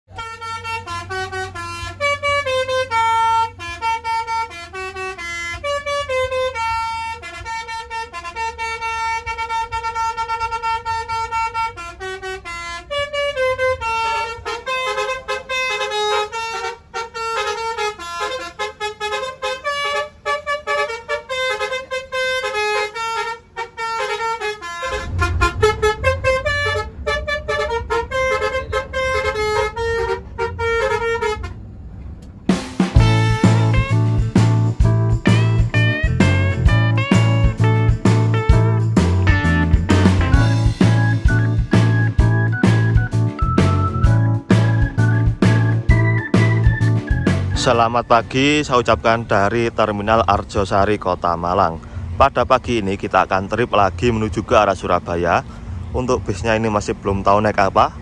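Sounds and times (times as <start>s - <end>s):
low bus engine rumble: 0.0s - 58.0s
bus horn playing a tune: 0.1s - 49.8s.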